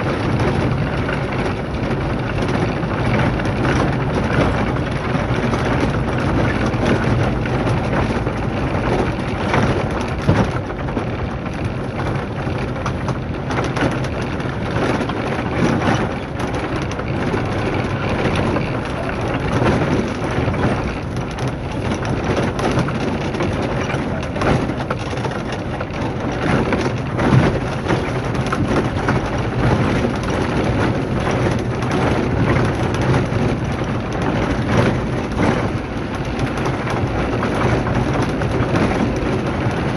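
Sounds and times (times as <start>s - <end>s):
gravel under tyres: 0.0s - 39.9s
vehicle engine hum: 0.0s - 39.9s
vehicle rattling on rough road: 0.0s - 39.9s.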